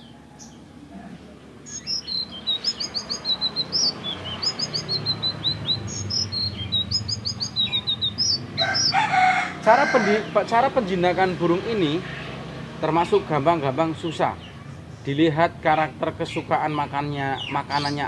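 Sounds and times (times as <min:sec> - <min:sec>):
songbird chirping and trilling: 0:00.0 - 0:18.0.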